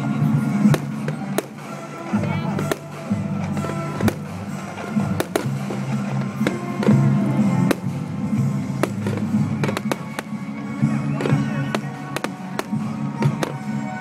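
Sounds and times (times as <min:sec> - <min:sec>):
background music: 0:00.0 - 0:14.0
fireworks bangs and cracks: 0:00.0 - 0:14.0.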